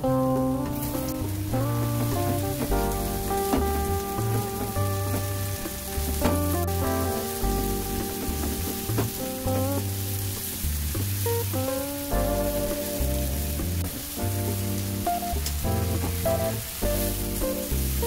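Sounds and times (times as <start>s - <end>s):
background music with bass line: 0.0s - 18.0s
onions sizzling in a frying pan: 1.7s - 18.0s.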